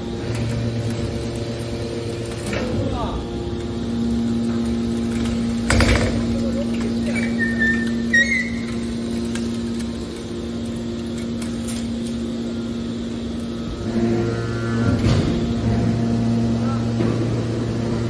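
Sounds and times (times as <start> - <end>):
baler machine hum: 0.0 - 18.0
deeper hum: 0.0 - 18.0.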